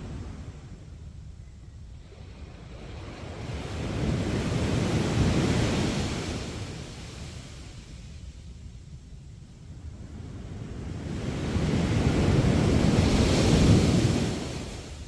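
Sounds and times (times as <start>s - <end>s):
low rumble of surf: 0.0s - 15.0s
wind: 0.0s - 15.0s.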